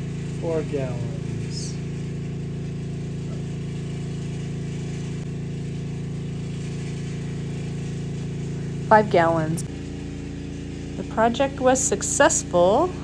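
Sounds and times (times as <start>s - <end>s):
water pump motor humming: 0.0s - 13.0s.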